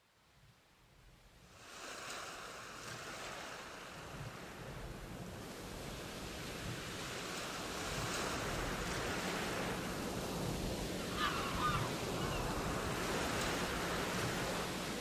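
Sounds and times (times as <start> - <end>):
wind: 0.0 - 15.0
sea rushing: 1.4 - 15.0.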